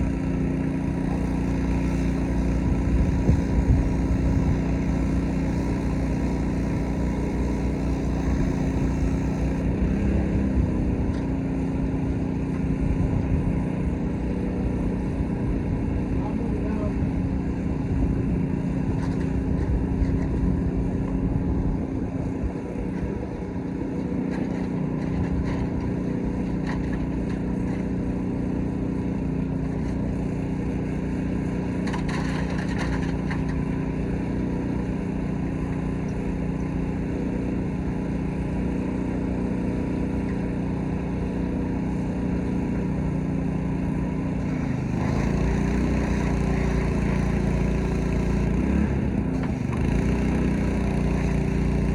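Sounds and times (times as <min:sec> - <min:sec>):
pressure washer engine running: 0:00.0 - 0:51.9.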